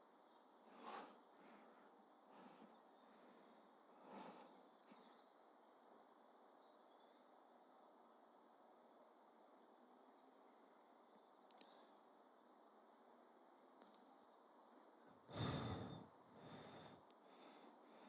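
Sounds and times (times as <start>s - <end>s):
faint outdoor ambience hiss: 0.0s - 18.0s
insect chirps: 0.0s - 18.0s.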